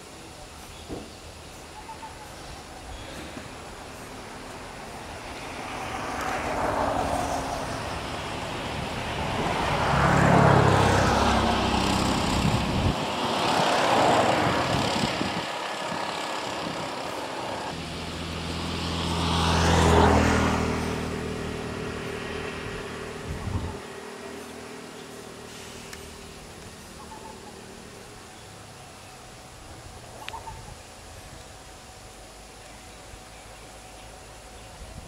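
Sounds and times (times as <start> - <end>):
engine hum: 0.0 - 35.0
vehicles passing: 0.0 - 35.0.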